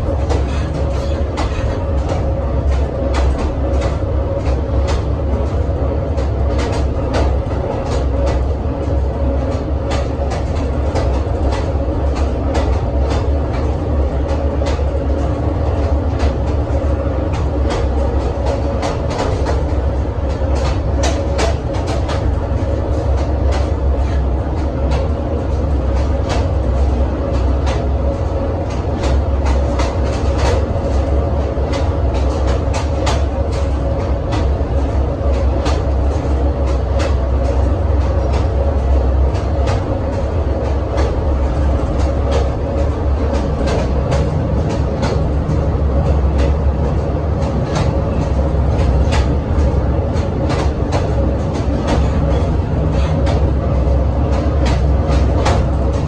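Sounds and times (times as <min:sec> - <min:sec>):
railcar running rumble: 0:00.0 - 0:56.0
wheels clicking on track: 0:00.0 - 0:56.0.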